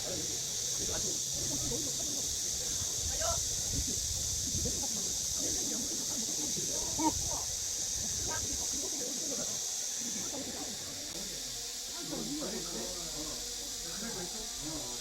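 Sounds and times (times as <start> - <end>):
faint voices murmuring: 0.0 - 15.0
high-pitched hiss: 0.0 - 15.0.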